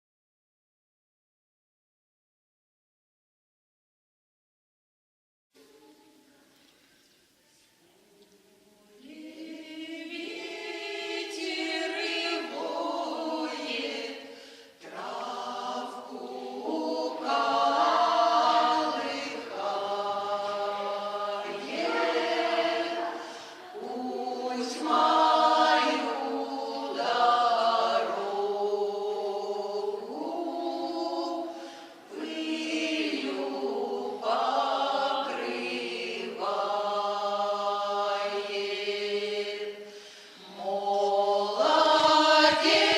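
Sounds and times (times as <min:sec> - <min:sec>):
choir singing: 0:08.0 - 0:42.9.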